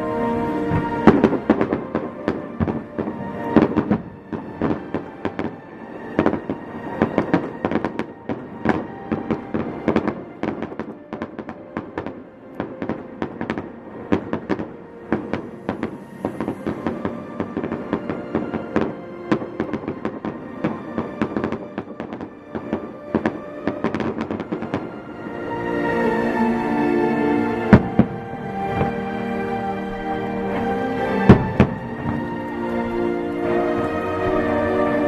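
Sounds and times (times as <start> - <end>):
music playing: 0.0 - 35.0
fireworks bursting with sharp bangs: 0.7 - 25.4, 27.6 - 29.1, 30.5 - 34.9.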